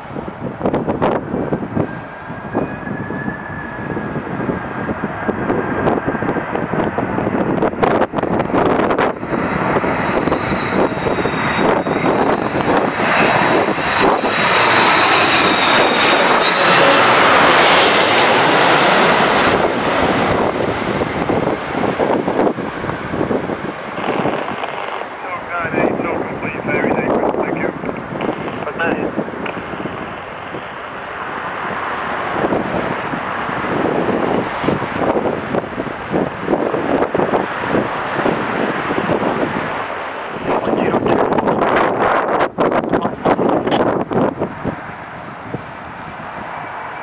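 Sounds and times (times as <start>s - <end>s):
jet airliner engine whine: 0.0s - 47.0s
wind buffeting microphone: 0.0s - 47.0s.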